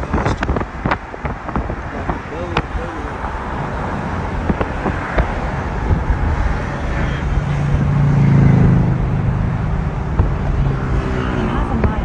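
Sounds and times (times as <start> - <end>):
car road noise: 0.0 - 12.0
low engine hum: 0.0 - 12.0.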